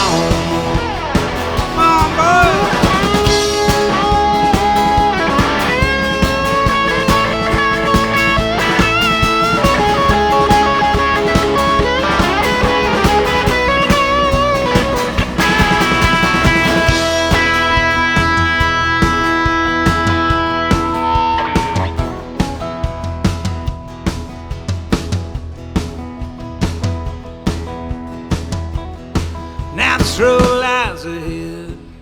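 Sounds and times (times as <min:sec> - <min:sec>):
electric lead guitar melody: 0:00.0 - 0:29.8
bass guitar: 0:00.0 - 0:32.0
drums: 0:00.0 - 0:32.0.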